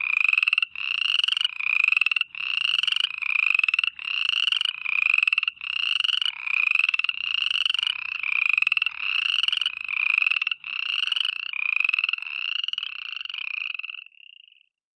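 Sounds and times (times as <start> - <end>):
frogs trilling: 0.0 - 14.7.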